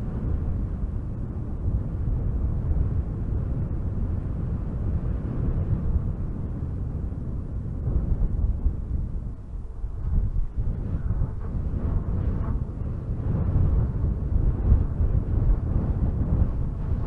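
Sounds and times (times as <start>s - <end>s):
wind gusting through trees: 0.0s - 17.0s.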